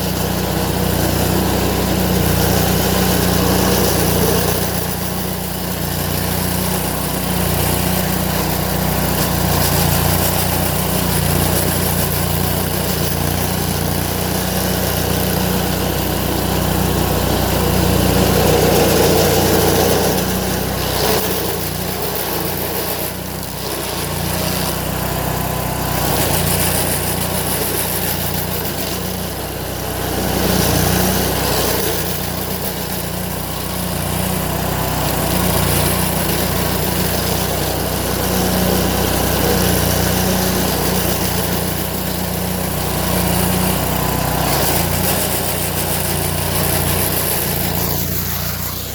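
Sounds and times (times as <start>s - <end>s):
stump grinder grinding: 0.0s - 48.9s.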